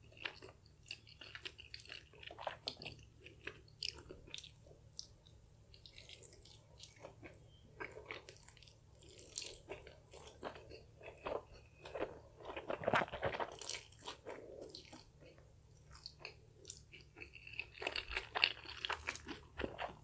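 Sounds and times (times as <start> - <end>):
slurping and chewing noodles: 0.0 - 5.1, 5.7 - 20.0.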